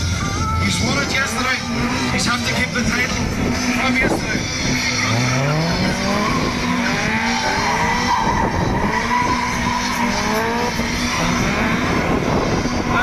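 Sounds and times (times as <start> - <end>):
car engines revving: 0.0 - 13.0
tyres squealing: 1.1 - 12.1.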